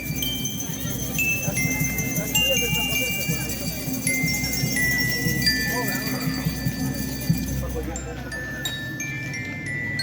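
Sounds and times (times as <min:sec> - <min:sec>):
bell lyre melody: 0:00.0 - 0:10.0.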